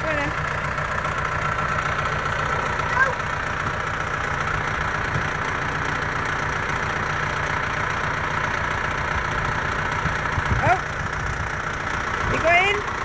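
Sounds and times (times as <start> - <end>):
forklift engine rumbling: 0.0 - 13.0.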